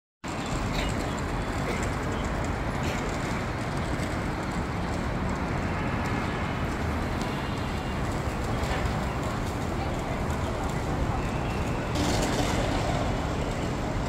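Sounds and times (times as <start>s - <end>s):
road traffic: 0.2s - 14.0s.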